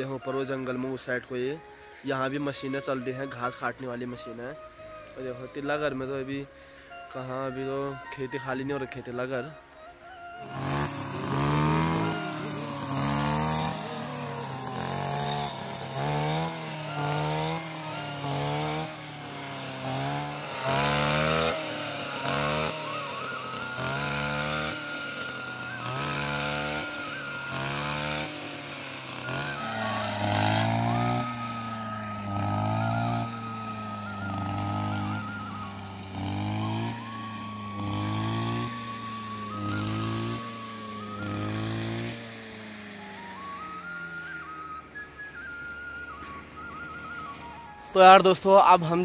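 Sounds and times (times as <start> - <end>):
brush cutter engine revving: 0.0 - 49.0.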